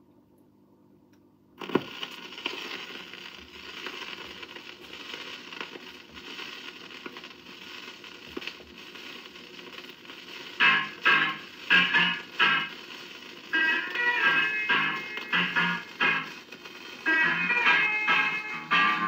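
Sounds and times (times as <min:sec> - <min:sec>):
vinyl crackle and pops: 0:01.1 - 0:19.0.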